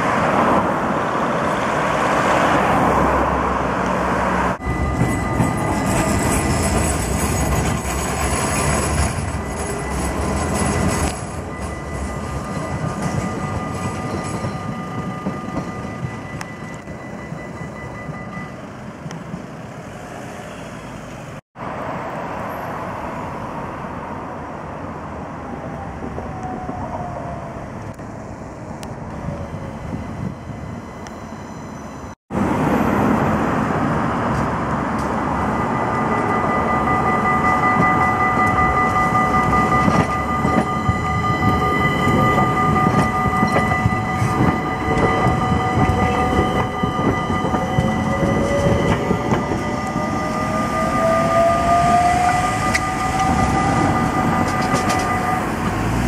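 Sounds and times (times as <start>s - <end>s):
tram motor whine: 0.3s - 21.3s, 26.4s - 56.0s.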